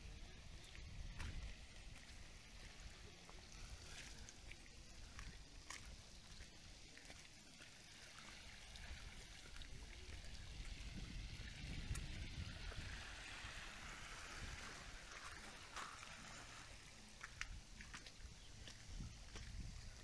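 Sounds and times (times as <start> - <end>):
water trickling among rocks: 0.0 - 20.0.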